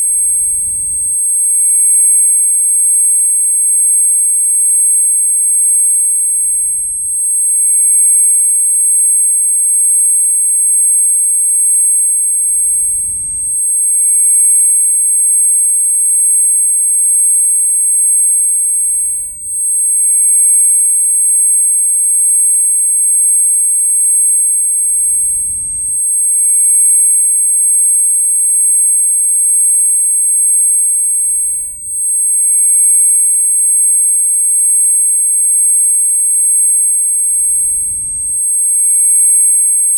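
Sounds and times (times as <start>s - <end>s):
high-pitched tinnitus whine: 0.0s - 39.9s.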